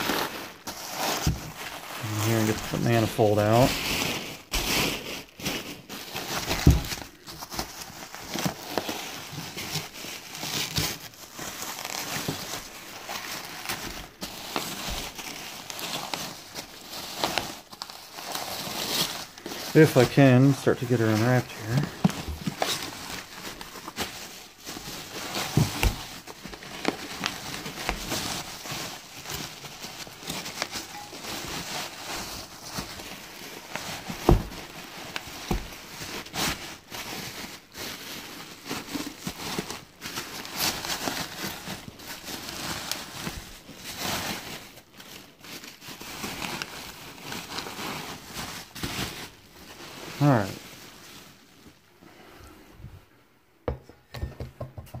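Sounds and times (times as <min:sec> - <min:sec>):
bubble wrap rustling and crinkling: 0:00.0 - 0:53.2.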